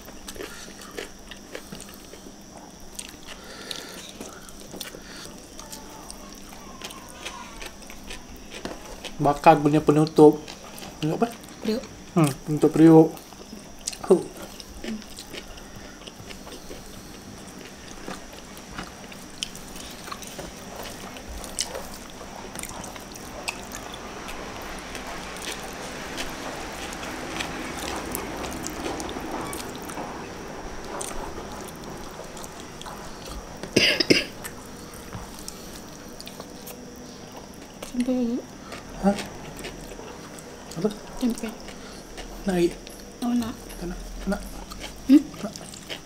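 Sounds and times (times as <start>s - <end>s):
soft chewing: 0.0s - 46.0s.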